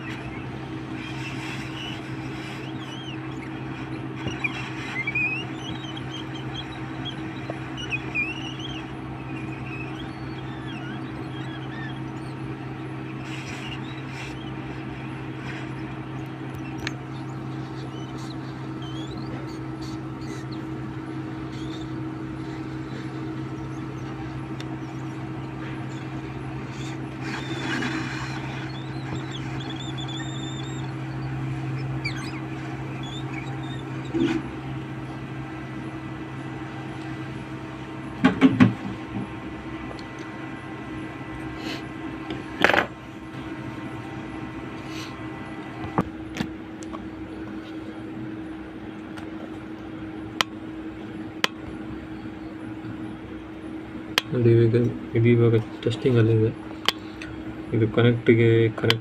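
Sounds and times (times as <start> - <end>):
birds chirping: 0.0 - 59.0
hot-air blower running: 0.0 - 59.0.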